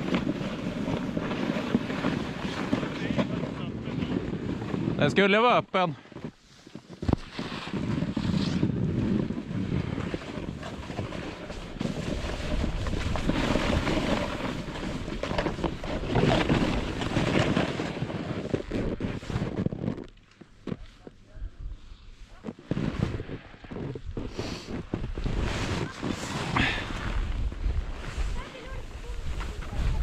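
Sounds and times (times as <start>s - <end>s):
wind rushing across microphone: 0.0s - 5.4s, 6.9s - 20.0s, 21.4s - 30.0s
skis sliding over snow: 0.0s - 30.0s.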